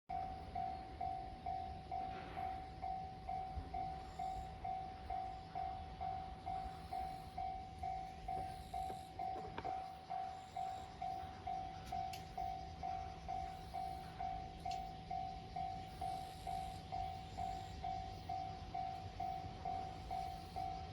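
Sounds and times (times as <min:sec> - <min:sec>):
level crossing warning bell: 0:00.1 - 0:20.9.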